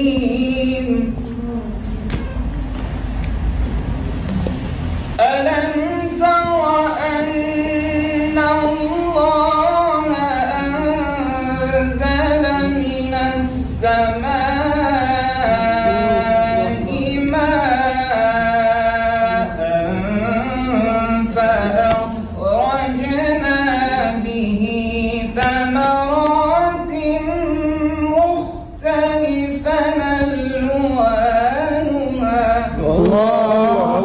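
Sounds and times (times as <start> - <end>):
person chanting melodic recitation: 0.0 - 2.6, 4.3 - 34.0.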